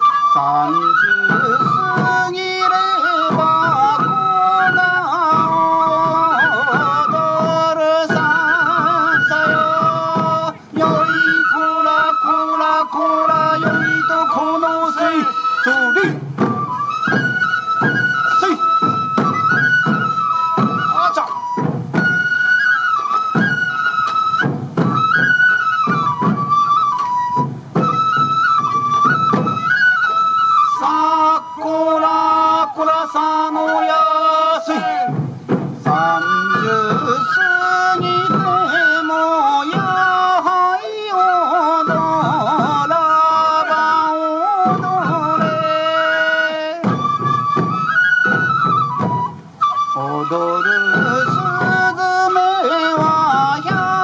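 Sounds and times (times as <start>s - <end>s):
bamboo flute melody: 0.0s - 54.0s
taiko drum beats: 0.0s - 54.0s.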